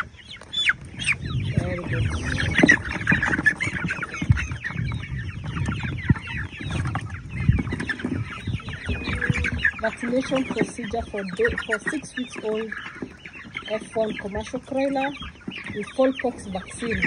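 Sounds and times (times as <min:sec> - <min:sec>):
chicks calling: 0:00.0 - 0:17.0.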